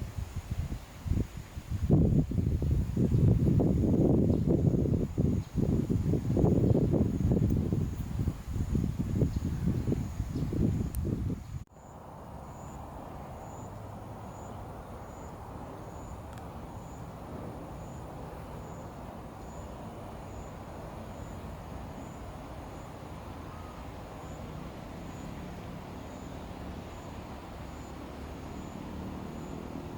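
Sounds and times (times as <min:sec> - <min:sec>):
distant traffic rumble: 0:03.8 - 0:29.9.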